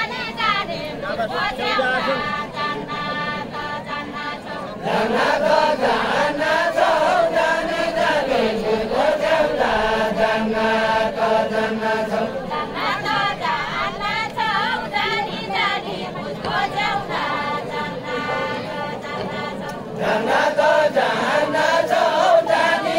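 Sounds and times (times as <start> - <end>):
group singing in unison: 0.0 - 22.9.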